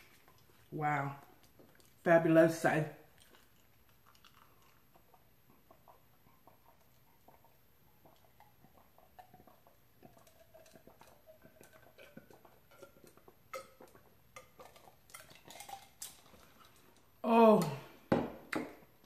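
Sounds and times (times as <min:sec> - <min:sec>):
person gulping water: 0:03.1 - 0:19.0.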